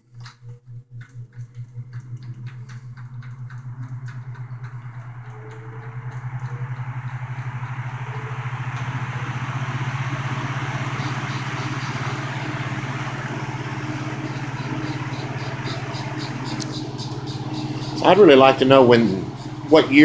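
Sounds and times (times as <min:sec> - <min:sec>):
box fan running: 0:00.0 - 0:20.0.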